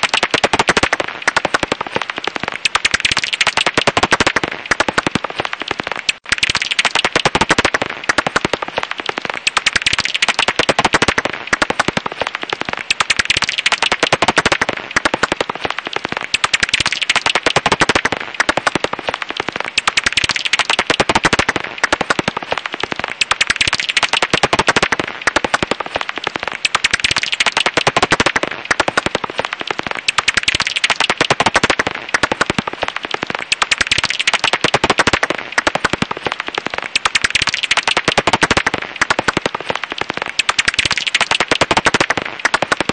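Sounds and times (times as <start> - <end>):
bat calls crackling clicks: 0.0 - 42.9.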